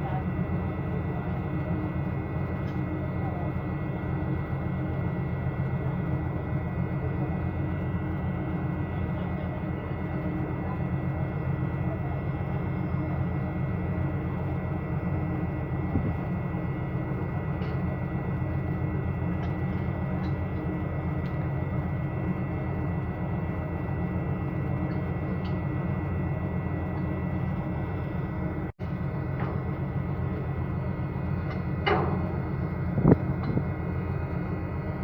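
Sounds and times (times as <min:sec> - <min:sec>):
low machinery drone: 0:00.0 - 0:35.0.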